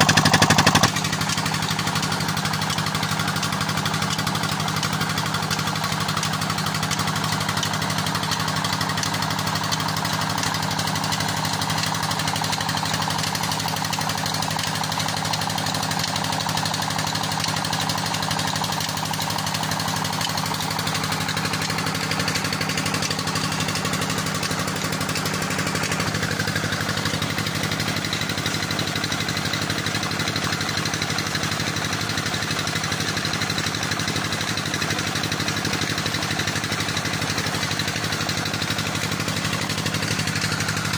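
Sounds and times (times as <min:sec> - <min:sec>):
diesel engine knocking: 0:00.0 - 0:40.9
water rushing from pipe: 0:00.0 - 0:40.9.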